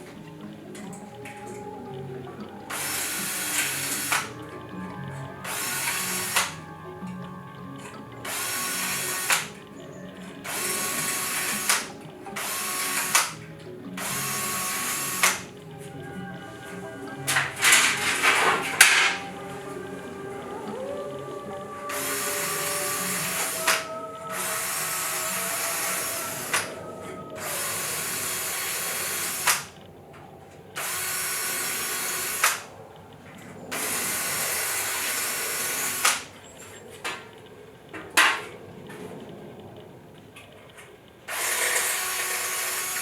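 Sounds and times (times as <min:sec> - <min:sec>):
power drill running: 0:00.0 - 0:29.8, 0:30.7 - 0:32.8, 0:33.7 - 0:36.4, 0:41.3 - 0:43.0.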